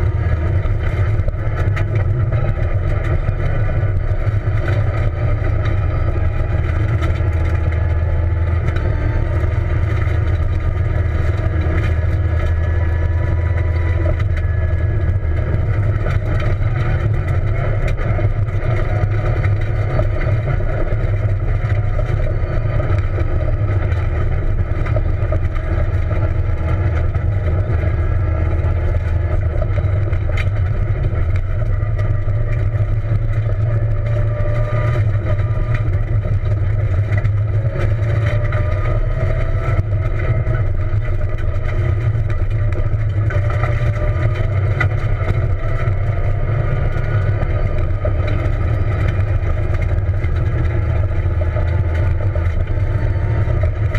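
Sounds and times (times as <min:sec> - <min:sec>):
car engine under load: 0:00.0 - 0:53.9
tyres rumbling on gravel: 0:00.0 - 0:53.9.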